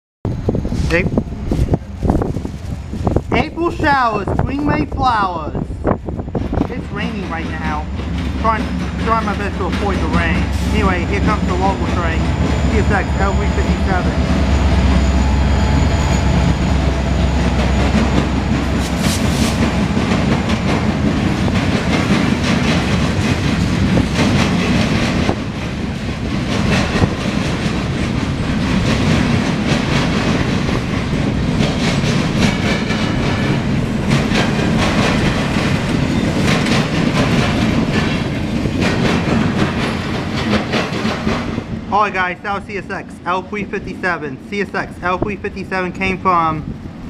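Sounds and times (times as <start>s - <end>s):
diesel locomotive rumble: 0.3s - 47.0s
train wheels clacking on rails: 5.8s - 46.2s.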